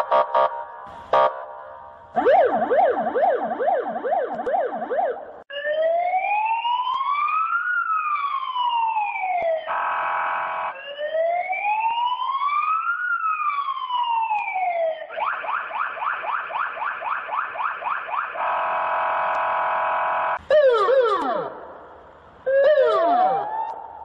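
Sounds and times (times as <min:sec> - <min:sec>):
police siren wailing and yelping: 0:02.2 - 0:09.9, 0:10.6 - 0:19.8, 0:20.4 - 0:21.6, 0:22.4 - 0:24.0.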